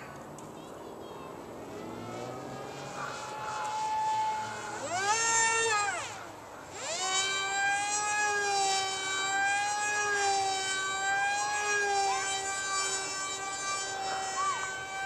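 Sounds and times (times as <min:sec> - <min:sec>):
rc plane motor whining: 0:00.0 - 0:15.0.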